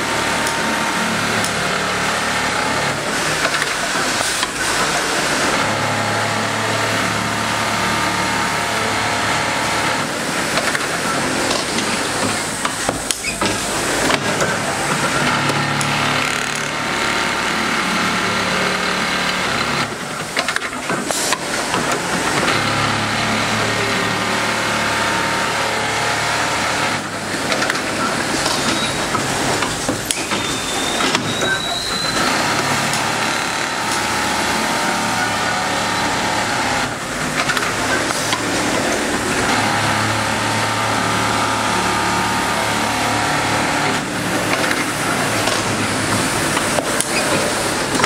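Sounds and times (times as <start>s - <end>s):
sewing machine stitching: 0.0s - 48.0s.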